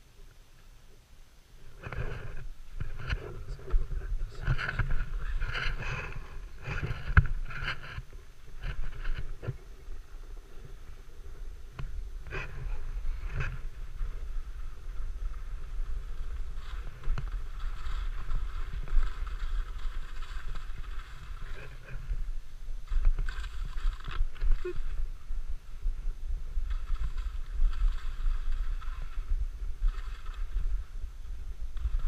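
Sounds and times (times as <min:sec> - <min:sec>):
wind rumble on microphone: 0:00.9 - 0:32.0
skis scraping over snow: 0:01.8 - 0:11.4, 0:12.1 - 0:32.0.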